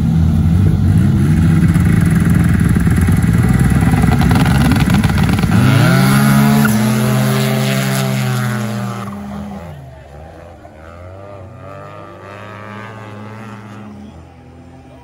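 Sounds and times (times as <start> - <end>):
snowmobile engines revving: 0.0 - 15.0.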